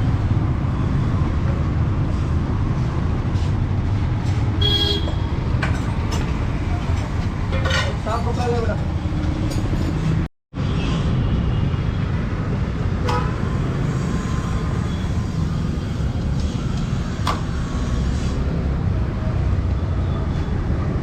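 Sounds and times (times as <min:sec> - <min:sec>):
low rumble of vehicle engines: 0:00.0 - 0:21.0.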